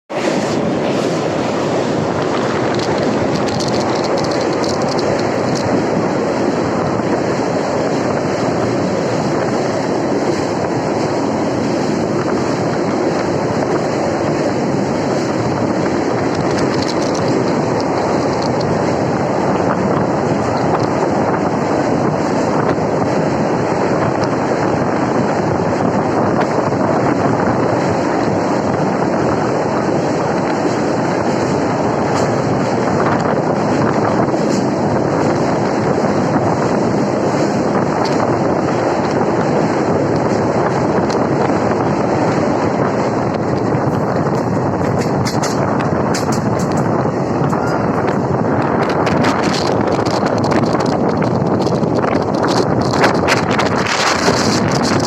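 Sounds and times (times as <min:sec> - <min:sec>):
train wheels rumbling on rails: 0:00.1 - 0:55.0.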